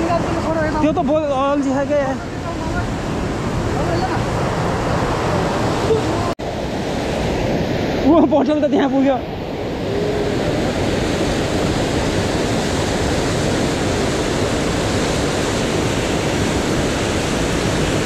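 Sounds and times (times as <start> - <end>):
river rushing through rapids: 0.0 - 18.0.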